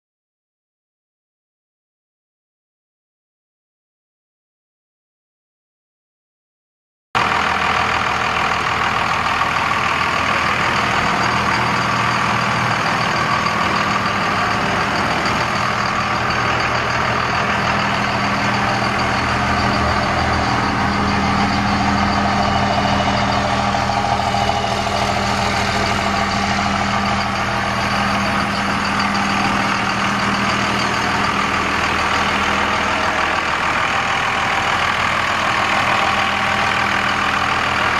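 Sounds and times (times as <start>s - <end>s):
diesel engine idling: 7.2s - 37.9s.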